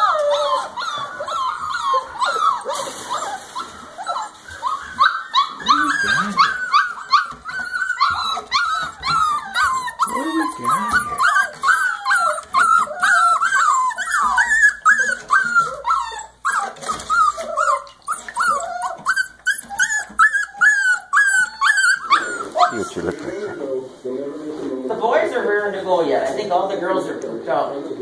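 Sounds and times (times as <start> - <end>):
puppies whining and yipping: 0.0 - 23.8.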